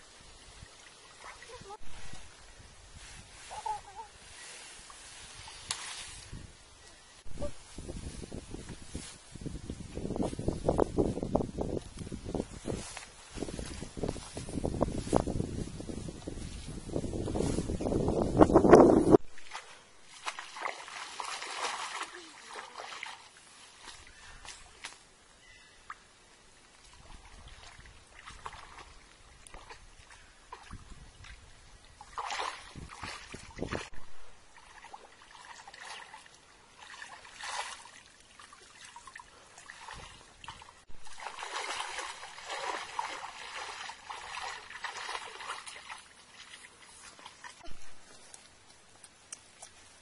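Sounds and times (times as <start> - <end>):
water splashing and trickling: 0.0 - 25.1, 25.8 - 50.0.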